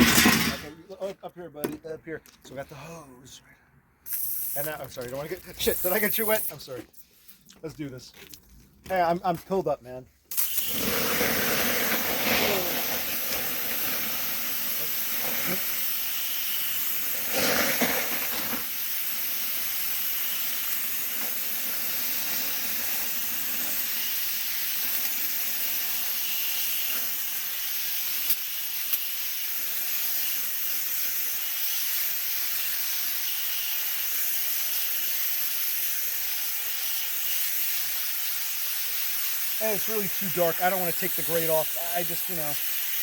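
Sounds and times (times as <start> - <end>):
water hissing on hot coals: 4.1 - 6.5, 10.3 - 43.0.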